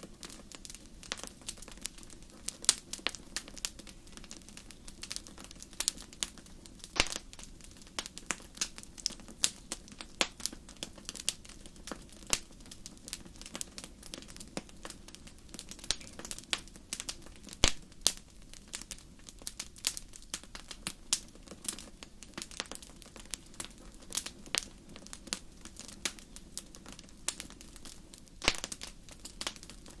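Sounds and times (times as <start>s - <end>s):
low fire hiss: 0.0s - 30.0s
wood fire crackling and popping: 0.0s - 30.0s.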